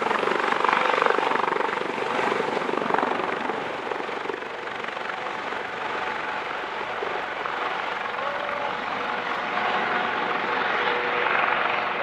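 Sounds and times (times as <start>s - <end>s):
helicopter engines and rotor: 0.0s - 12.0s.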